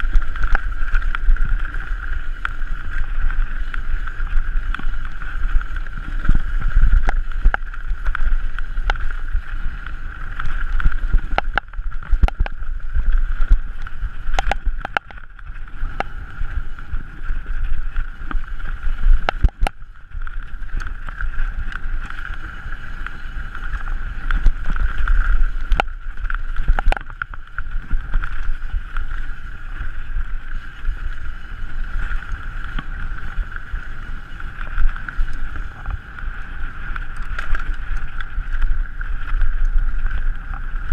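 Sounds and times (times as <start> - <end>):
low rumble of bike over ground: 0.0 - 40.9.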